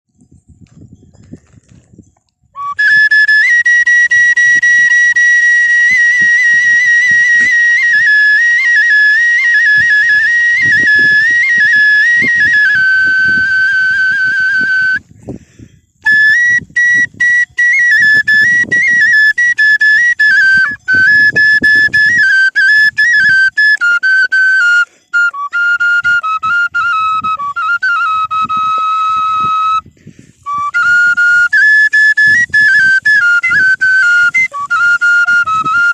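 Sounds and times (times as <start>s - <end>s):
flute melody: 2.6s - 15.1s, 16.0s - 35.9s.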